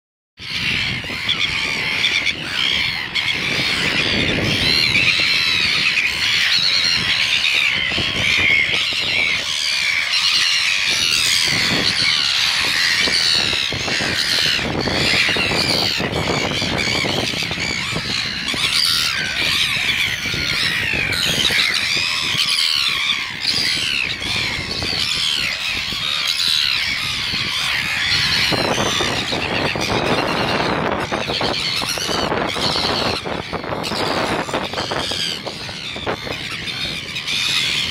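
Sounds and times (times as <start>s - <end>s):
gulls squawking: 0.4s - 37.9s.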